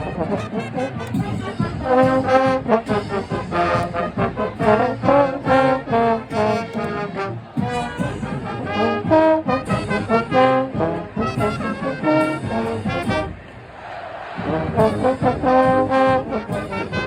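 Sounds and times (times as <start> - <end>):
marching band playing: 0.0 - 17.0
trombones and trumpets: 0.0 - 17.0.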